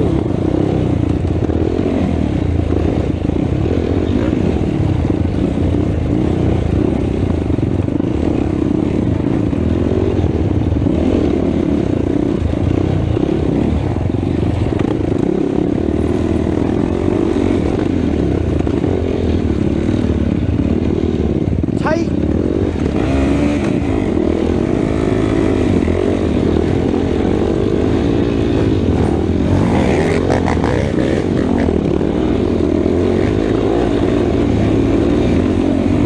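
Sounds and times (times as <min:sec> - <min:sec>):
atv engine running hard: 0:00.0 - 0:36.0.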